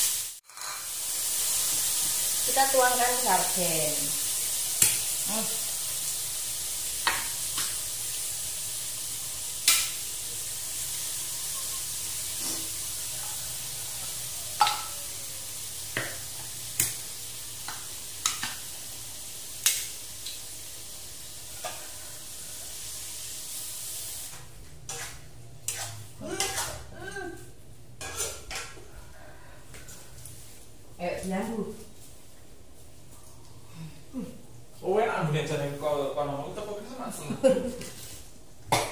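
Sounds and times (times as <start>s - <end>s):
food sizzling in a wok: 0.0s - 33.0s, 34.8s - 38.9s.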